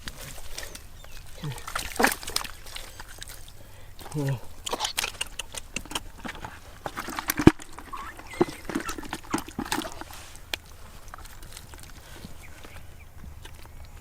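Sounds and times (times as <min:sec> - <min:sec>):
wet mud squelching: 0:00.0 - 0:14.0.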